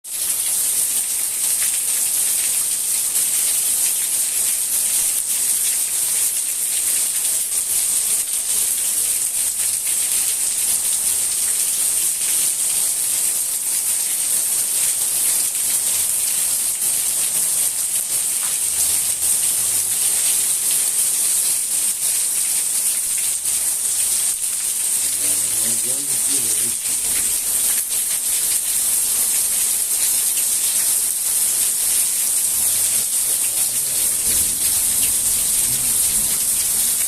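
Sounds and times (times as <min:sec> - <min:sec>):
steady rain falling: 0:00.1 - 0:37.0.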